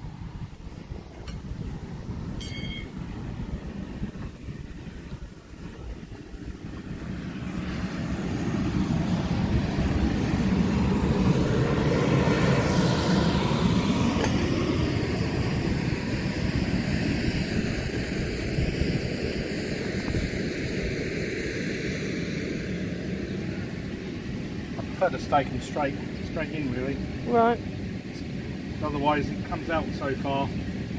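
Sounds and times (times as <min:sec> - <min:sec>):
passing engine drone: 0:00.0 - 0:26.3
electric blower fan hum: 0:00.0 - 0:30.9.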